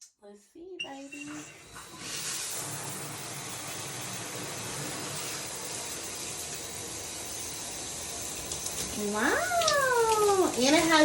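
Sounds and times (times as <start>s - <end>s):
shower head spraying water: 1.0s - 11.0s.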